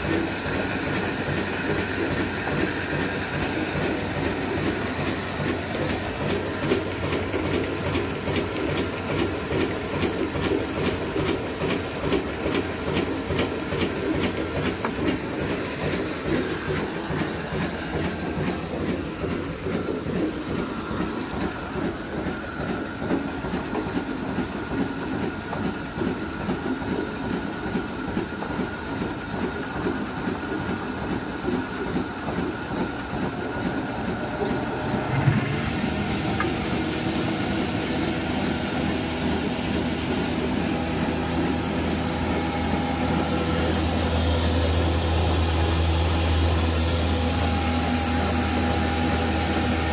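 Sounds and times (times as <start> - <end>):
steady machine whine: 0.0 - 25.6, 30.9 - 49.9
diesel engine running machinery: 0.0 - 49.9.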